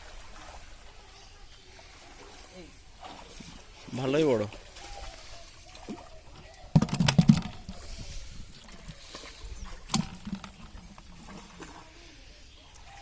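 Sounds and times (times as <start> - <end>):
water splashing and slapping: 0.0 - 13.0.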